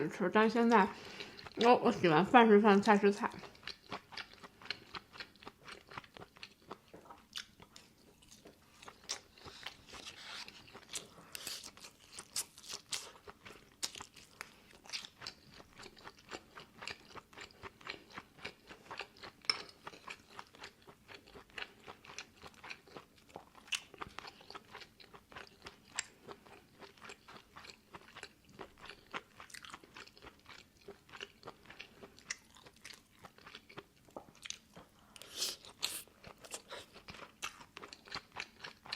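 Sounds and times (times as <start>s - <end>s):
person chewing with crunches: 0.6s - 1.7s, 3.3s - 38.9s.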